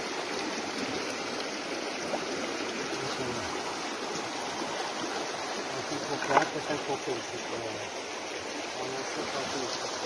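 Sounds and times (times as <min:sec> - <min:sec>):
creek water rushing over gravel: 0:00.0 - 0:10.0.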